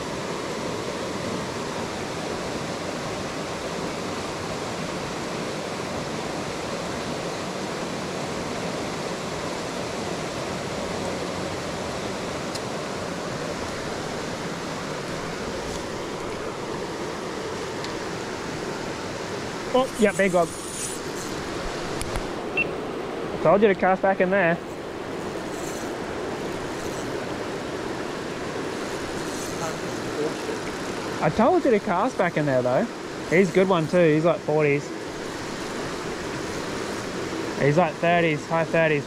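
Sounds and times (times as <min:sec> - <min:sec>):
creek rushing over rocks: 0:00.0 - 0:39.0.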